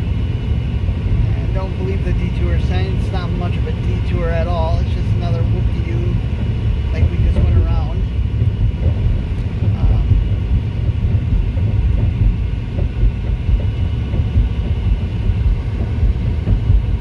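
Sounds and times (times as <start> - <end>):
tyre and road noise in car: 0.1 - 17.0.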